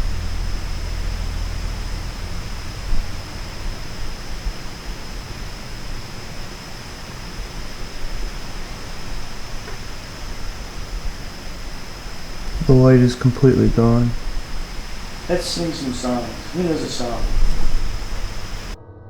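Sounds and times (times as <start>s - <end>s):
constant high-pitched tone: 0.0s - 18.8s
low wind rumble: 0.0s - 18.8s
steady hiss: 0.0s - 18.8s.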